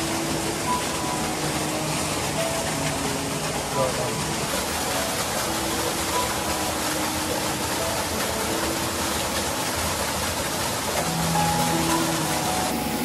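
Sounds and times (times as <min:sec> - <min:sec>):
faint soft music: 0:00.0 - 0:13.0
rushing water: 0:00.0 - 0:13.0.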